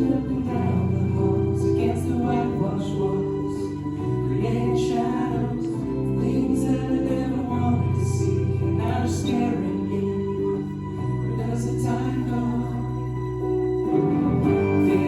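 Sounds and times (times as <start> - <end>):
live band music with singing: 0.0 - 15.0.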